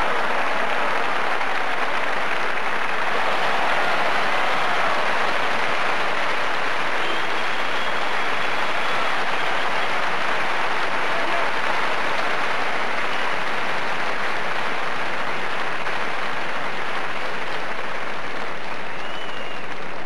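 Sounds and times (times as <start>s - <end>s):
crowd applauding: 0.0s - 20.0s.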